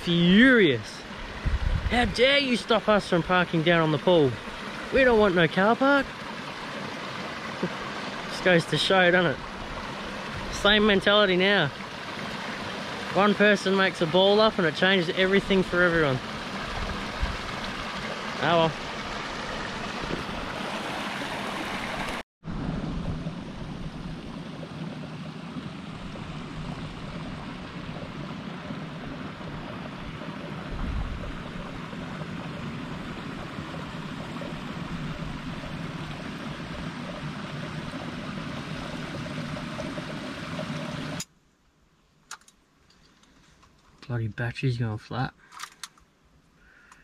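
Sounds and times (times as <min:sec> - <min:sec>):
water rushing over rocks: 0:00.0 - 0:22.2, 0:22.8 - 0:41.2.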